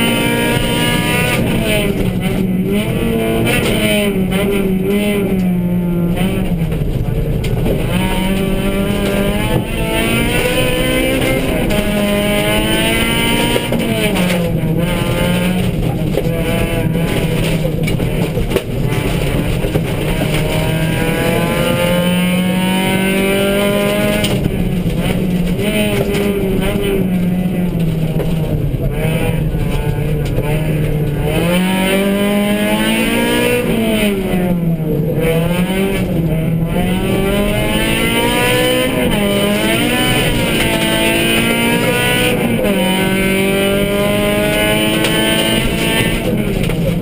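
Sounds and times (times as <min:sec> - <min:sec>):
gravel and tyre noise: 0:00.0 - 0:47.0
rally car engine revving: 0:00.0 - 0:47.0.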